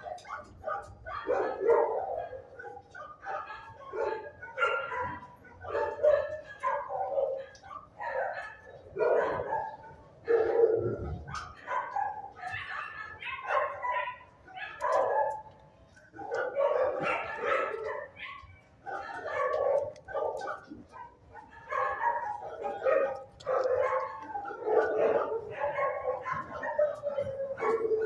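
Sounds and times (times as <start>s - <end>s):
dogs barking: 0.0s - 28.0s.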